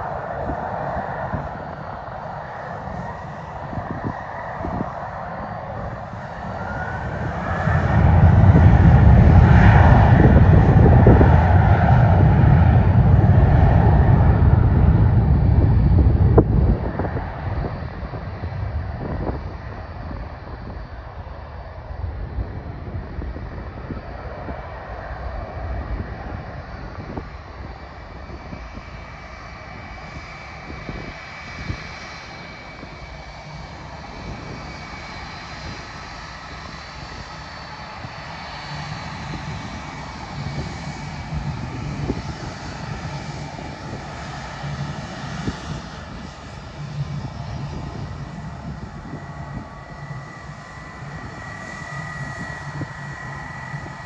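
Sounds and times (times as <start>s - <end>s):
airliner engines running: 0.0s - 54.0s
high engine whine: 0.0s - 54.0s.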